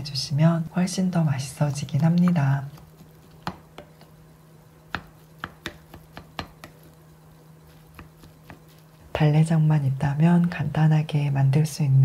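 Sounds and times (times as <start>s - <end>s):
rice squishing: 0.0s - 10.0s.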